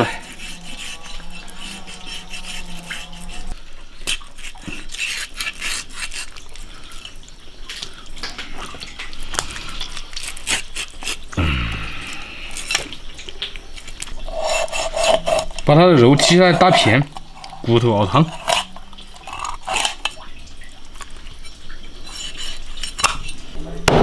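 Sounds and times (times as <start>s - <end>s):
wet squelching and dripping: 0.0s - 23.8s.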